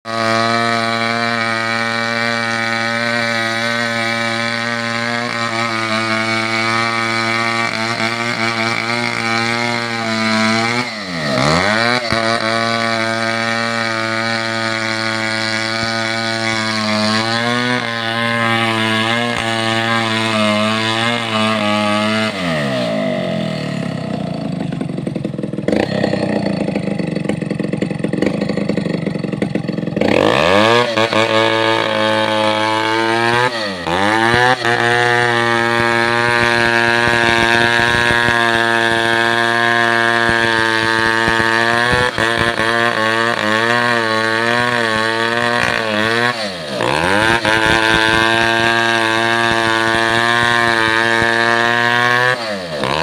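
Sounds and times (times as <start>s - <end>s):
chainsaw engine revving: 0.1s - 53.0s.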